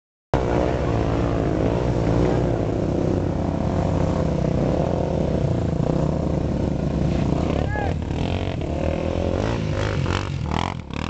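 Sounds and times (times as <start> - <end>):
quad bike engines revving: 0.4 - 11.0.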